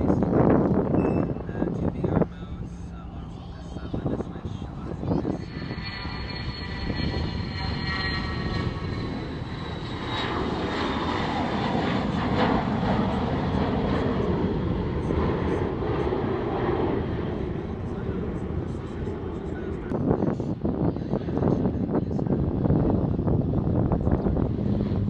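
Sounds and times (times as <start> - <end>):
airplane engine rush: 0.0 - 25.0
airplane engine whine: 0.0 - 25.0.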